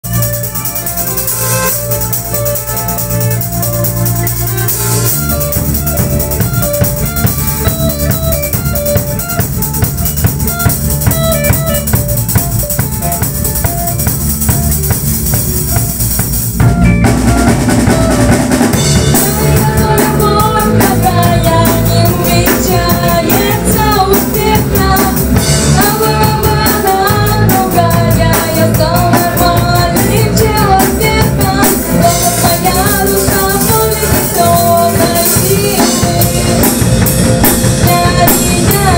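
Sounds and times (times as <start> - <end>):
drum hits: 0.0 - 38.9
live band playing: 0.0 - 38.9.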